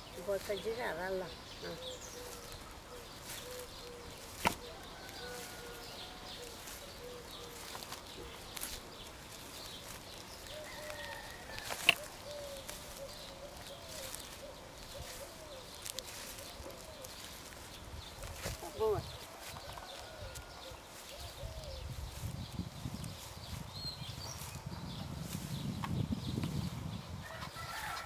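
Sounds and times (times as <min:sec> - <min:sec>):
birds calling faintly: 0:00.0 - 0:28.0.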